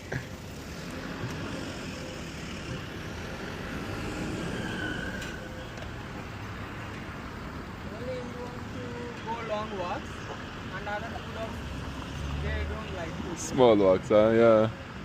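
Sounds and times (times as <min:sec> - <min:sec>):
vehicle passing: 0:00.0 - 0:14.3
road traffic rumble: 0:00.0 - 0:15.0.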